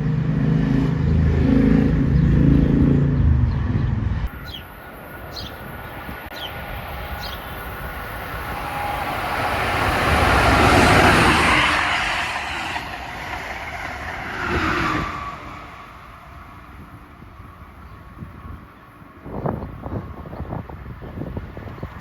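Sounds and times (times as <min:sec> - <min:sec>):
train passing at speed: 0:00.0 - 0:21.7.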